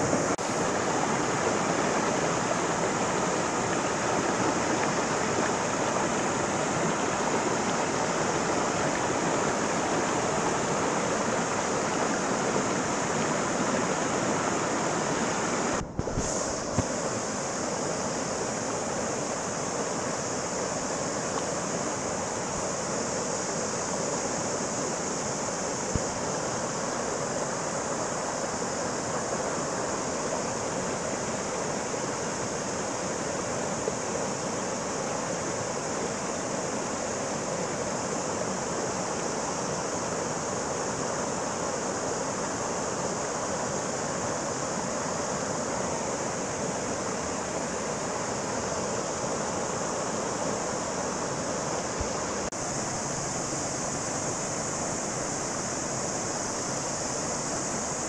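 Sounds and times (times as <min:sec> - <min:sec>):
stream rushing over stones: 0:00.0 - 0:58.0.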